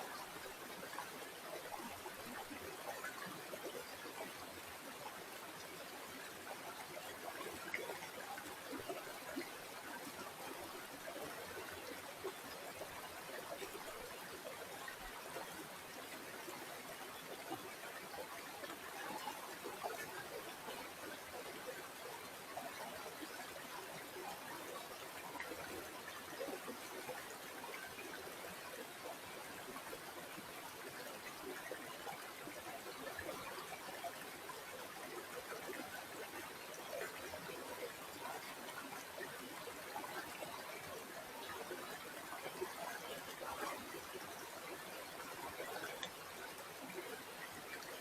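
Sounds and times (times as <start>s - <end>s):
water flowing and trickling: 0.0s - 48.0s.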